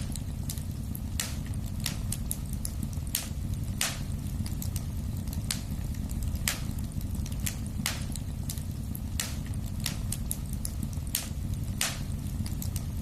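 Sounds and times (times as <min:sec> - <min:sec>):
fire crackling pops: 0:00.0 - 0:13.0
fire flame rumble: 0:00.0 - 0:13.0.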